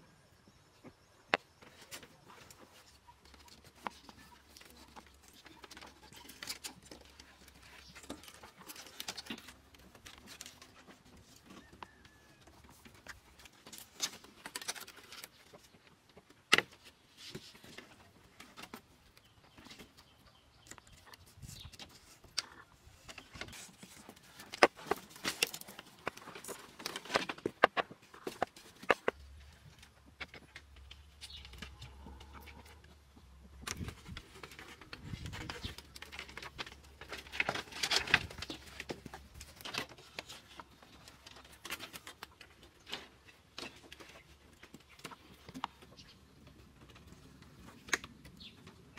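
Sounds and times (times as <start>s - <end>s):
bamboo slats and poles clicking: 1.2s - 48.9s.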